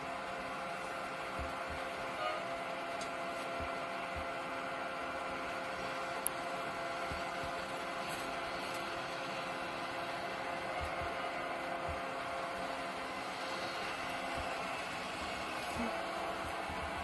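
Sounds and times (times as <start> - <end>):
brush cutter engines running: 0.0 - 17.0.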